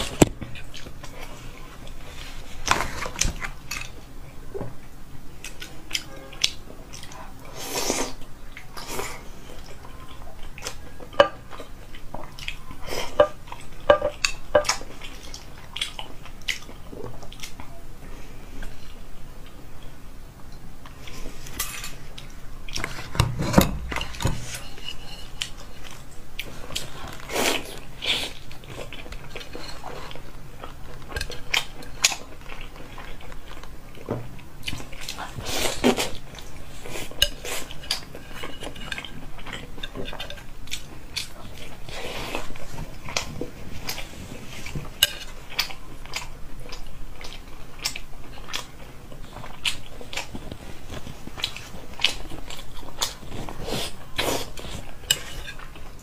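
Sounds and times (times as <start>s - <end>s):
chewing: 4.8s - 17.8s, 23.8s - 56.0s.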